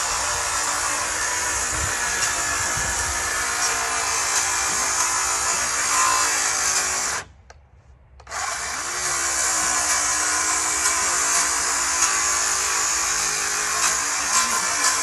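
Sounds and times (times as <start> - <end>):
handheld power tool running: 0.0 - 7.3, 8.2 - 15.0.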